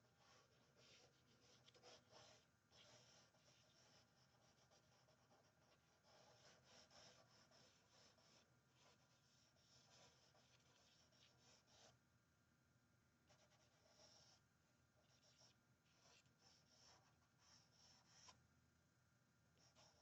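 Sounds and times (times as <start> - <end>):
charcoal pencil scratching on paper: 0.0 - 12.0, 13.3 - 14.4, 15.0 - 18.4, 19.6 - 20.0.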